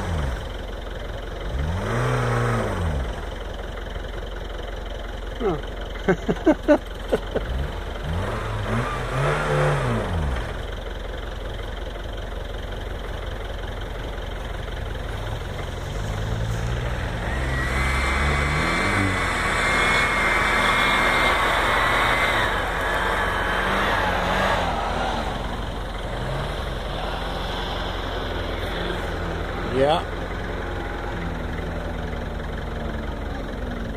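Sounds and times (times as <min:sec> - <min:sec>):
off-road vehicle engine revving: 0:00.0 - 0:33.9.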